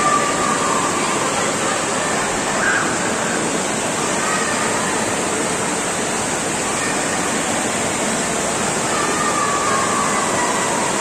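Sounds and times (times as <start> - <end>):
faint voices: 0.0 - 11.0
fountain water splashing: 0.0 - 11.0.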